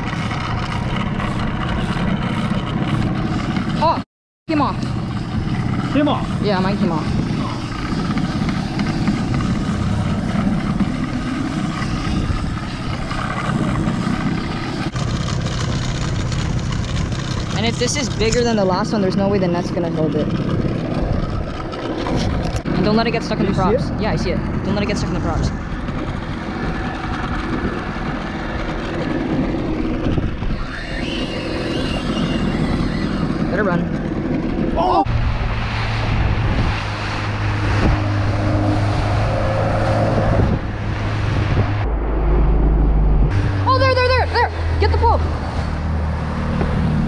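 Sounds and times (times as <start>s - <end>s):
outboard motor running: 0.0s - 47.0s
water noise: 0.0s - 47.0s
wind on microphone: 0.0s - 47.0s.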